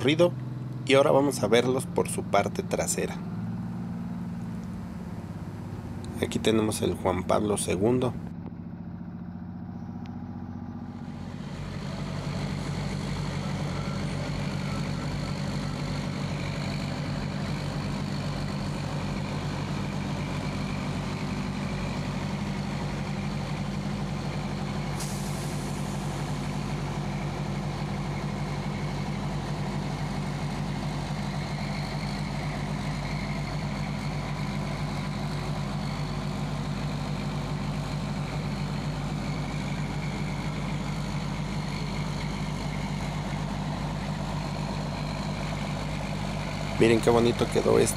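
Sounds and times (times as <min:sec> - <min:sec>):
bus engine idling: 0:00.0 - 0:47.9.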